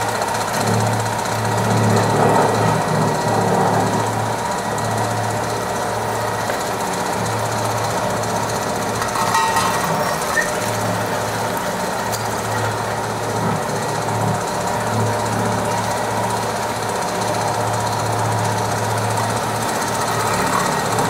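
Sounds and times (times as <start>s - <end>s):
machinery clatter: 0.0s - 21.0s.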